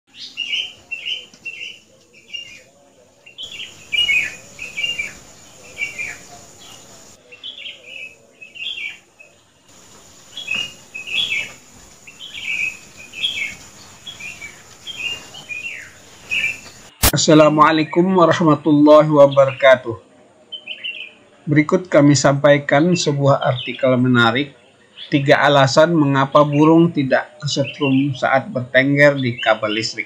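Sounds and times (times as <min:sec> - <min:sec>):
small birds chirping: 0:00.1 - 0:18.3, 0:18.9 - 0:30.0.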